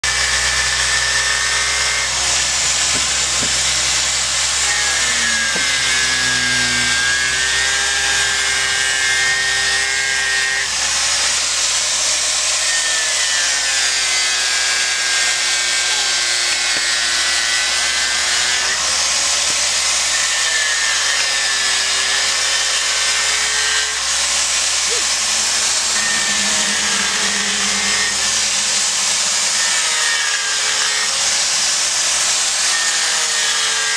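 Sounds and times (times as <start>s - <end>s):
angle grinder grinding wood: 0.0s - 33.9s.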